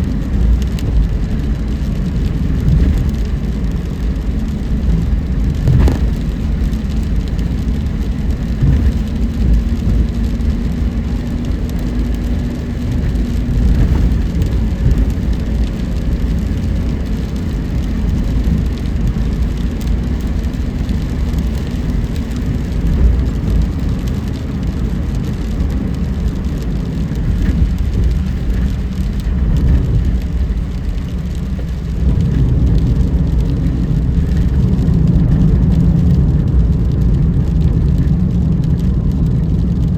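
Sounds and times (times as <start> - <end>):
car tyres on wet road: 0.0 - 39.9.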